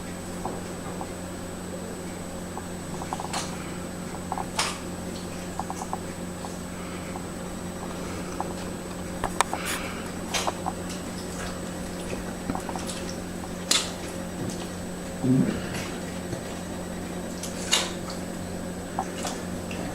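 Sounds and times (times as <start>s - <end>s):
steady indoor hum: 0.0s - 19.9s.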